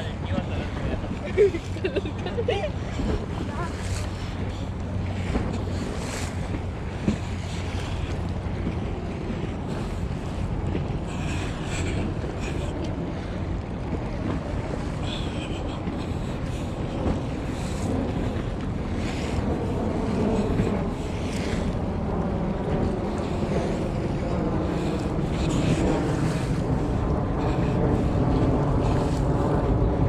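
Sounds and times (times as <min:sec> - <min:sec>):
waves washing on beach: 0:00.0 - 0:30.0
wind buffeting microphone: 0:00.0 - 0:30.0.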